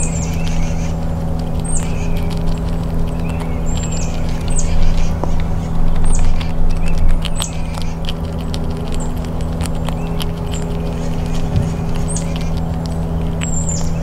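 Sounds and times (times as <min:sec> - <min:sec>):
low machine hum: 0:00.0 - 0:14.0
squirrel chewing a peanut: 0:00.0 - 0:14.0.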